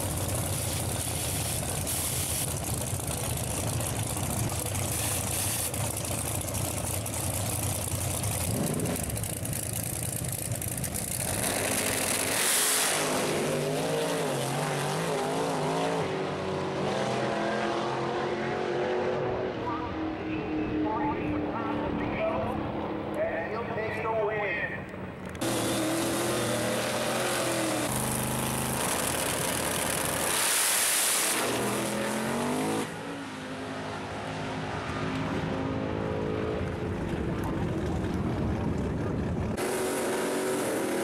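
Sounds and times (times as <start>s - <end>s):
drag racing engines revving: 0.0s - 24.1s, 24.8s - 41.0s.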